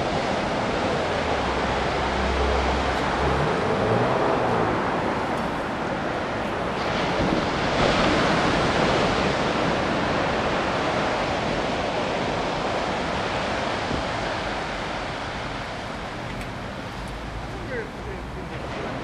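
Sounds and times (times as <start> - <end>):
small waves breaking on a beach: 0.0 - 19.0.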